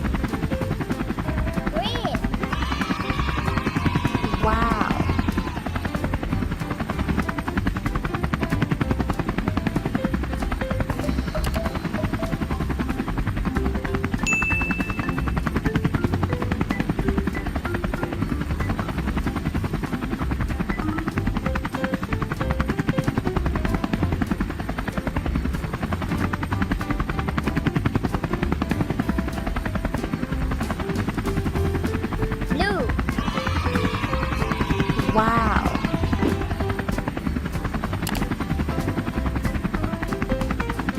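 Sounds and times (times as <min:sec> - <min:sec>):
helicopter rotor beating: 0:00.0 - 0:40.9
light background music: 0:00.0 - 0:40.9.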